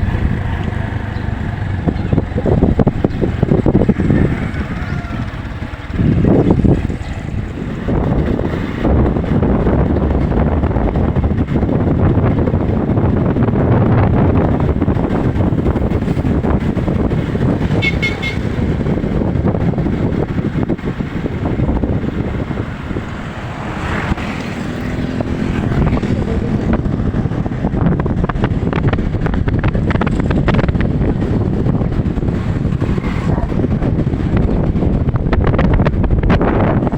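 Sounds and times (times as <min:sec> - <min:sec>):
strong wind buffeting microphone: 0:00.0 - 0:36.9.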